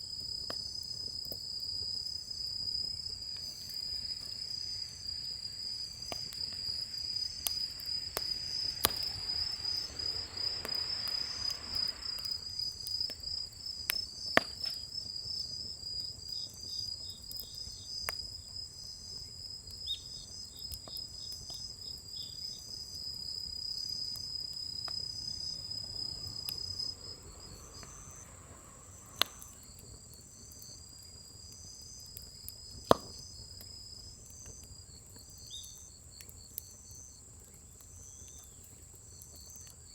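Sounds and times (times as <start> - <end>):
firewood popping in fire: 0.0 - 39.9
insects trilling: 0.0 - 39.9.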